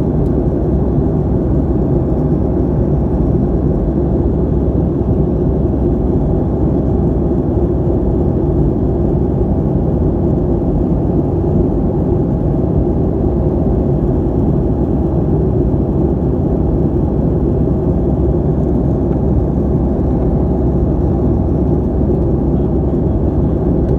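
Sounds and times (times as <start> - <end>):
airplane engines low roar: 0.0 - 23.9.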